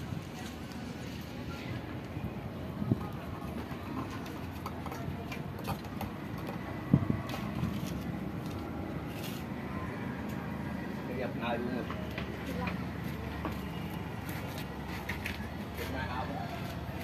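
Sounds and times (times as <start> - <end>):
faint distant voices: 0.0 - 17.0.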